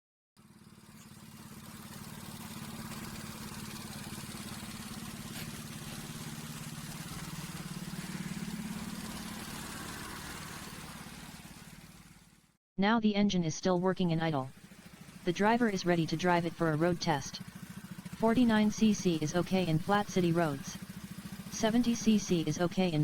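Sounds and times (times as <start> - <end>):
moped engine idling: 0.4 - 12.5, 14.1 - 23.0.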